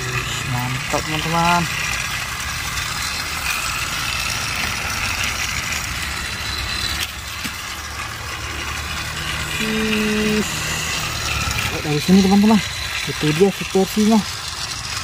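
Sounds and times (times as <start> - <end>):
toy trains whirring on track: 0.0 - 15.0.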